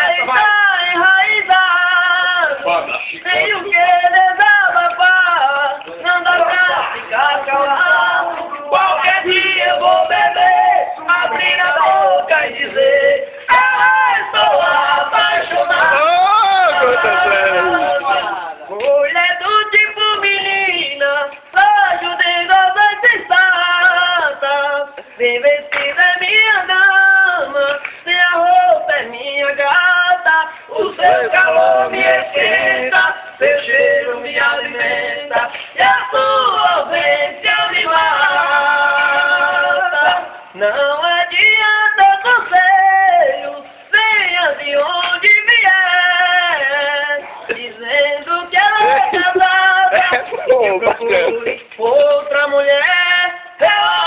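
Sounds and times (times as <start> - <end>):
two men singing unaccompanied: 0.0 - 54.0.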